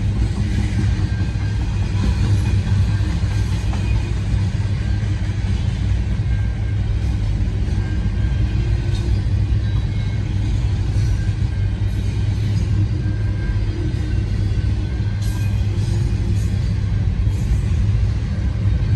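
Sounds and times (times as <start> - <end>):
freight train wheels rumbling: 0.0 - 18.9.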